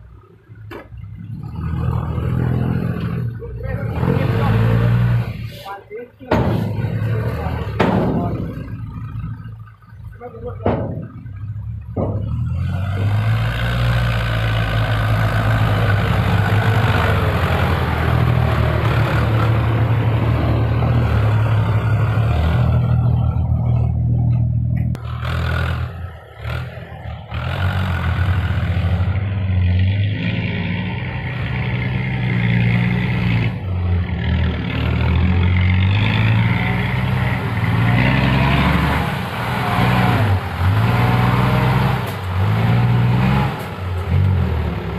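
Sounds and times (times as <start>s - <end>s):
truck diesel engine revving: 0.0s - 44.9s.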